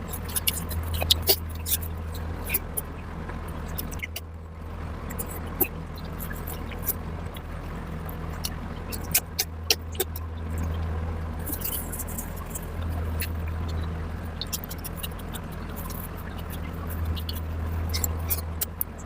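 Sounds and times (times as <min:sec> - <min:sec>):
person chewing food: 0:00.0 - 0:02.9, 0:03.6 - 0:04.3, 0:05.1 - 0:07.5, 0:08.1 - 0:19.0
low hum: 0:00.0 - 0:19.0.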